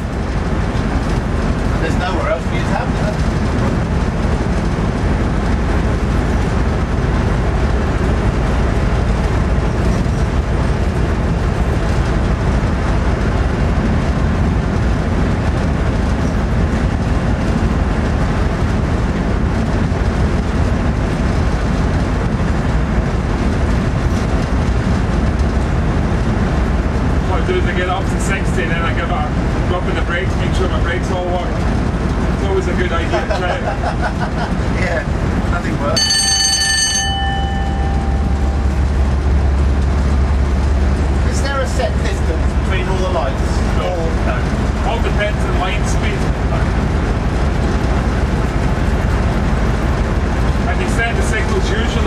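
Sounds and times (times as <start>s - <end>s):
diesel locomotive engine rumble: 0.0s - 52.0s
train wheels on rails: 0.0s - 52.0s.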